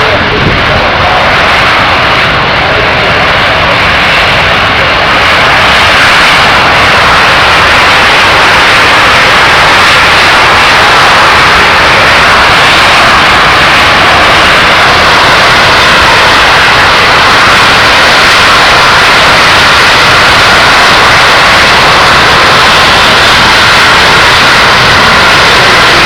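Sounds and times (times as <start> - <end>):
loud jet aircraft noise: 0.0 - 26.0.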